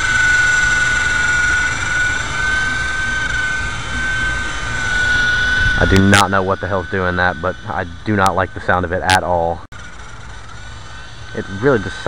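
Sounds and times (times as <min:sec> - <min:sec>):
rc helicopter motor whining: 0:00.0 - 0:12.0.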